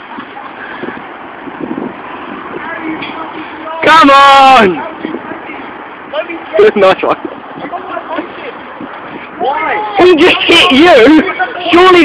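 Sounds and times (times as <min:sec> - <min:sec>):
faint voices: 0:00.0 - 0:12.0
wind buffeting microphone: 0:00.0 - 0:12.0.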